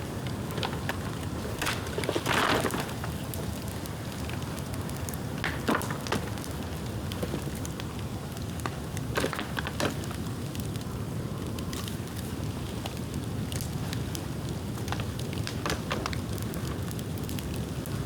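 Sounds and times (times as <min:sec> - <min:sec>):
bamboo bonfire crackling: 0:00.0 - 0:18.0.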